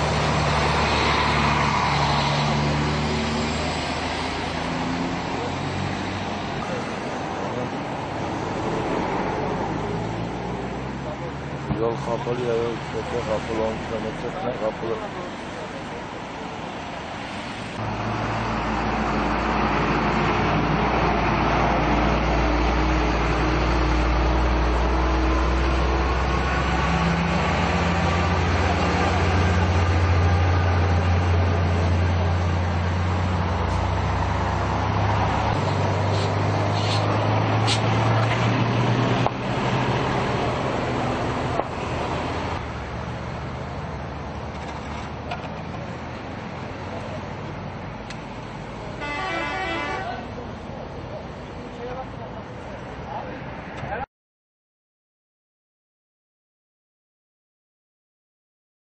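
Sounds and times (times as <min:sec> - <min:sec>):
large vehicle engine droning: 0:00.0 - 0:54.0
road traffic noise: 0:00.0 - 0:54.1.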